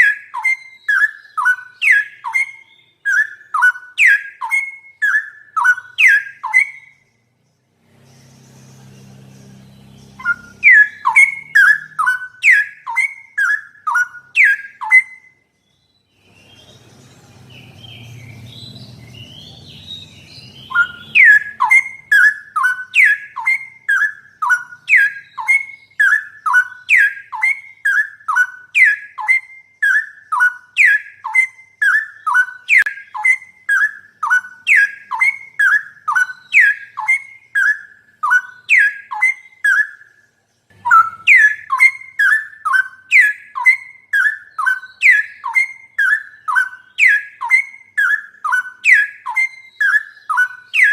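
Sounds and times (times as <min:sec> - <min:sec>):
bird whistled song: 0:00.0 - 0:50.9
faint bird chatter: 0:00.0 - 0:50.9.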